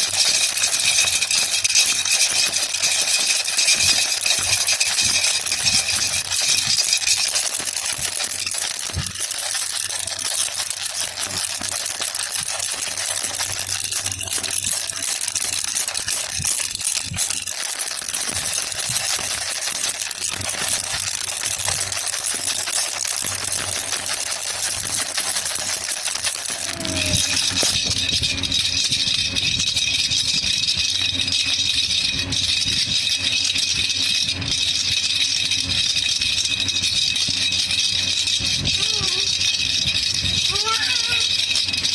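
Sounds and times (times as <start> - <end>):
baby rattle shaken: 0.0 - 41.9
jingling rattle ringing tones: 0.0 - 41.9.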